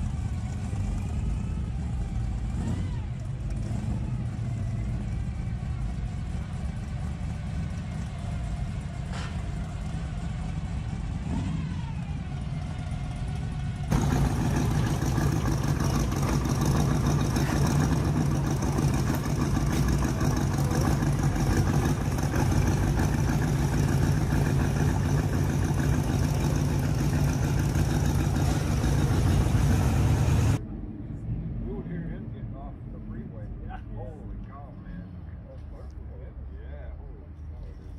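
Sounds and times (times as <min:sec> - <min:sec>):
car engines rumbling: 0:00.0 - 0:37.9.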